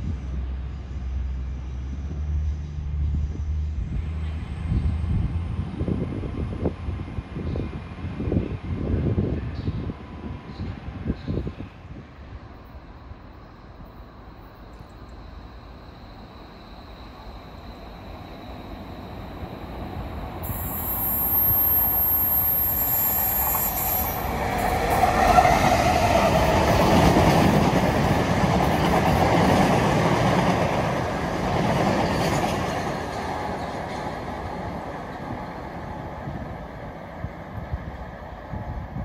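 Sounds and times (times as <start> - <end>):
diesel locomotive engine: 0.0 - 39.0.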